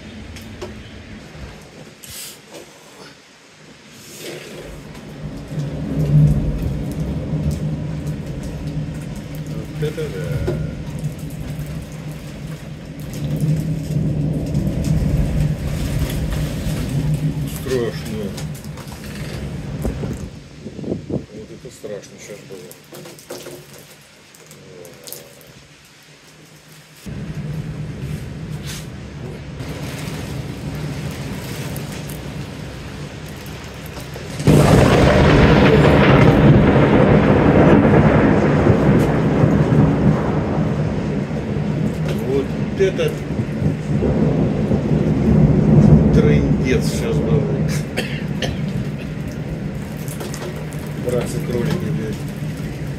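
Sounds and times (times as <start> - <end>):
rain: 0.0 - 52.9
thunderstorm rumble: 4.0 - 22.9, 27.0 - 52.9.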